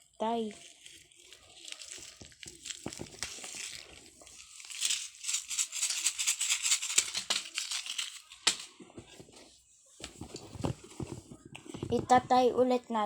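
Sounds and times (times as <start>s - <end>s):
packaging crinkling and rustling: 0.5s - 12.4s.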